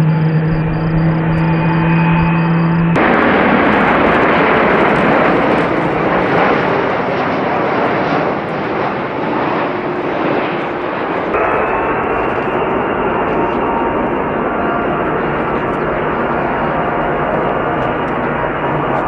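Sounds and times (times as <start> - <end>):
thin steady whine: 0.0 - 7.2, 7.9 - 19.0
jet engines rushing: 0.0 - 19.0.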